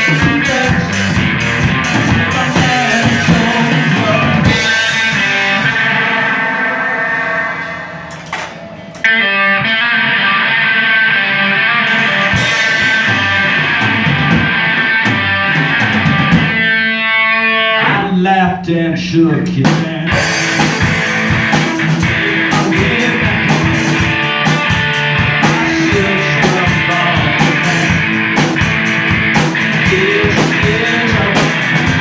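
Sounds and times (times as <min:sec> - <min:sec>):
live rock band playing: 0:00.0 - 0:18.2, 0:19.4 - 0:32.0
electric guitar: 0:00.0 - 0:18.3, 0:19.0 - 0:32.0.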